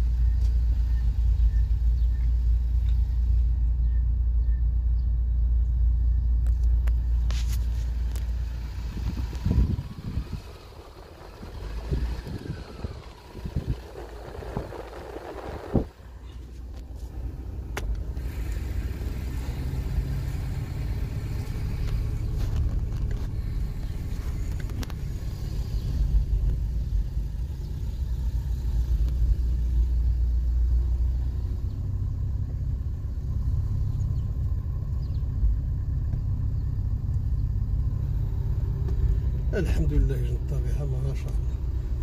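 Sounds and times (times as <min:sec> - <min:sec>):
car driving heard from cabin: 0:00.0 - 0:42.0.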